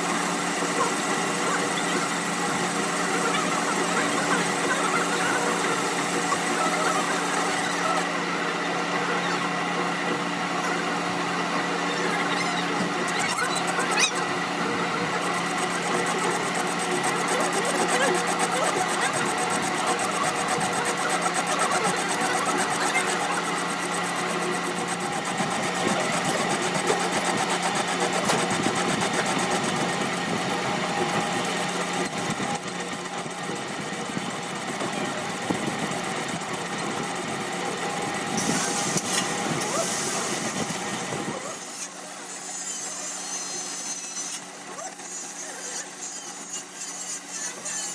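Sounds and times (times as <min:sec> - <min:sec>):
workshop machine humming and rattling: 0:00.0 - 0:47.9.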